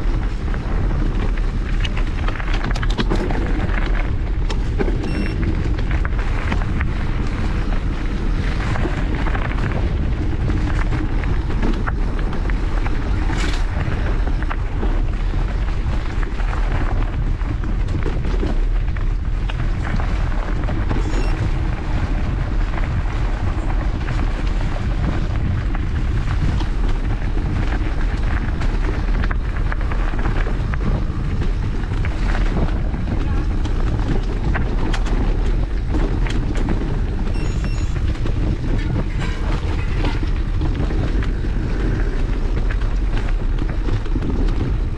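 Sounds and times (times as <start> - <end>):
bike clicks and rattles: 0.0 - 44.9
bike tyre noise: 0.0 - 44.9
wind on microphone: 0.0 - 44.9.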